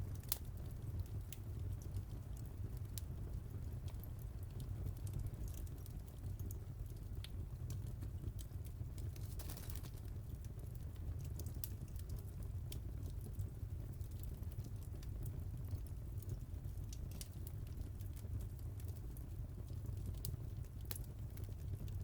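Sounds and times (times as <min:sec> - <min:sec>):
fire crackling and popping: 0:00.0 - 0:22.0
low fire rumble: 0:00.0 - 0:22.0.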